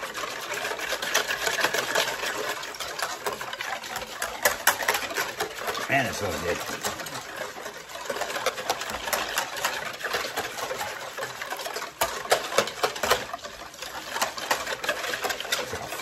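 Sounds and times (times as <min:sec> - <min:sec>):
liquid sloshing: 0:00.0 - 0:16.0
whisk clicking against plastic: 0:00.0 - 0:16.0.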